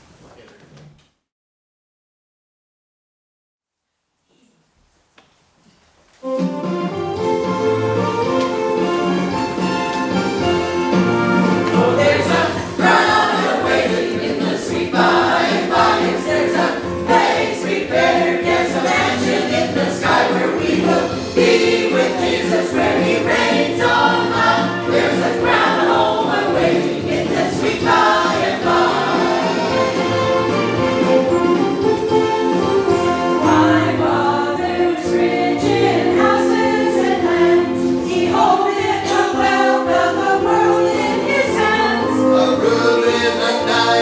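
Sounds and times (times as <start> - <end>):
held accompaniment: 6.2 - 44.0
group singing a hymn: 6.4 - 44.0.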